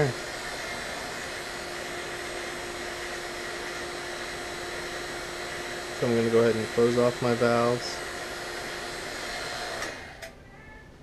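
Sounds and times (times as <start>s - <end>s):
vacuum pump humming: 0.0s - 10.4s.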